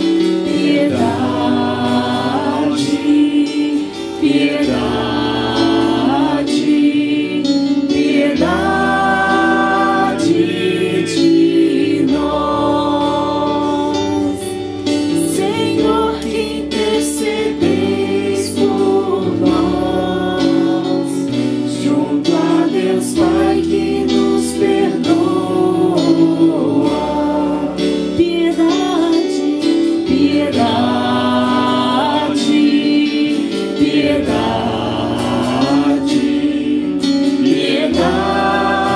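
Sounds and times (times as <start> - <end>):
church choir singing a hymn: 0.0 - 38.9
instrumental bass notes: 0.0 - 38.9.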